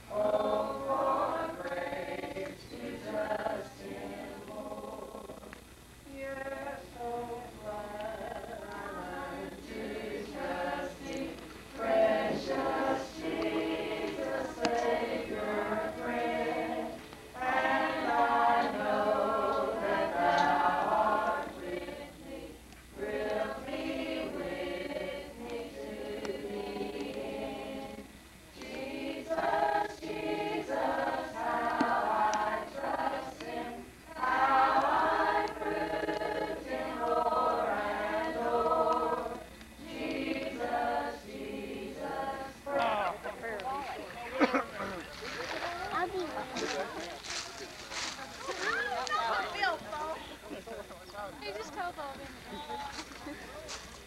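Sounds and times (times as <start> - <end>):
group singing a hymn unaccompanied: 0.0 - 54.0.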